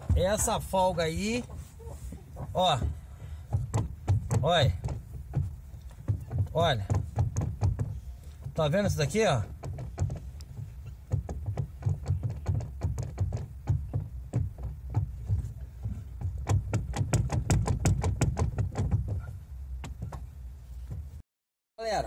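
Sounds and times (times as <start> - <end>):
steering knocking clunks: 0.0 - 21.2.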